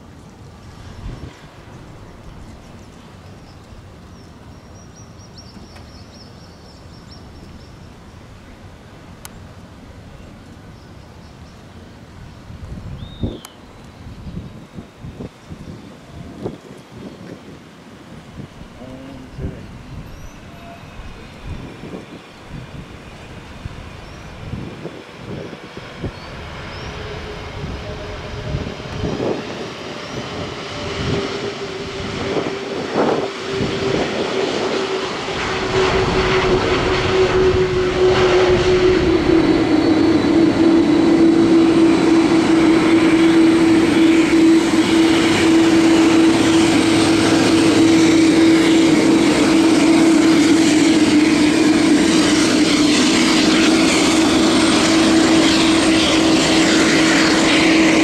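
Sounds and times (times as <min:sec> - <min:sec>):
jet engines at taxi power: 0:00.0 - 0:58.0
steady engine whine: 0:00.0 - 0:58.0.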